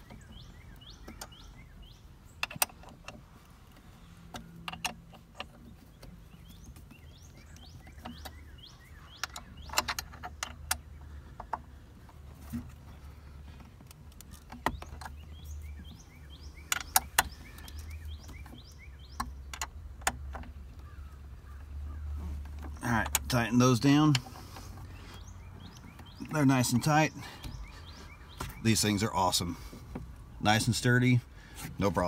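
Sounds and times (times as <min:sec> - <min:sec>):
birds chirping faintly: 0:00.0 - 0:32.0.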